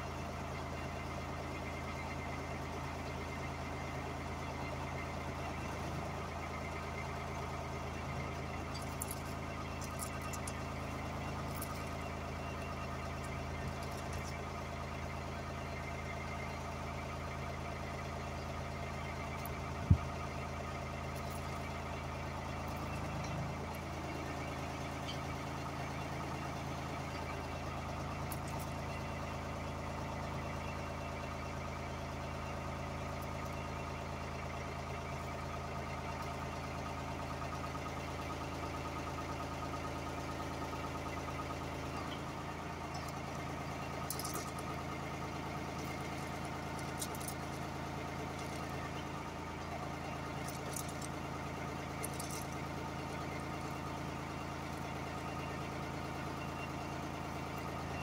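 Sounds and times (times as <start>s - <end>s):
sewer jetter pump drone: 0.0s - 58.0s.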